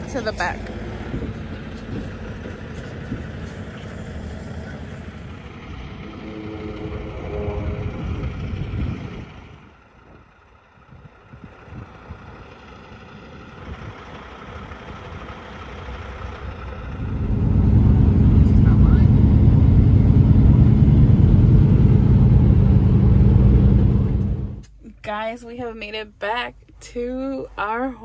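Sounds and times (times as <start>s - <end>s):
diesel truck engine running: 0.0s - 26.1s.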